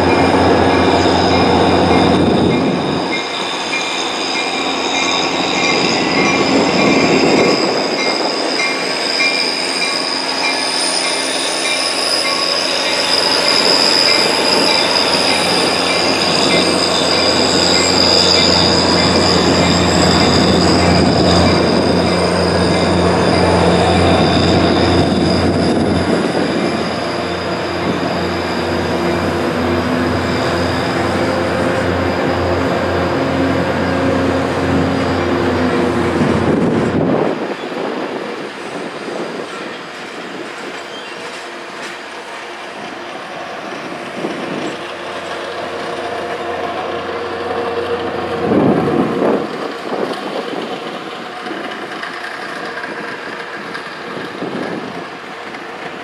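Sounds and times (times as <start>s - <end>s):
train rolling rumble: 0.0s - 56.0s
train wheel squeal: 0.0s - 56.0s.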